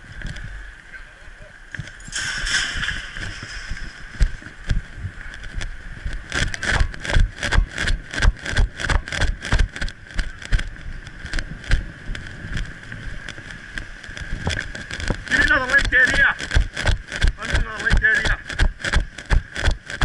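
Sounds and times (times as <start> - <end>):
camera thumps and knocks: 1.8 - 11.8, 13.8 - 20.0.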